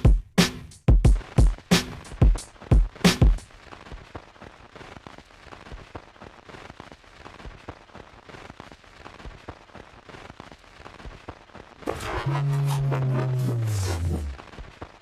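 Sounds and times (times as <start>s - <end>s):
faint hiss: 1.2s - 15.0s
small clicks and crackles: 2.4s - 15.0s.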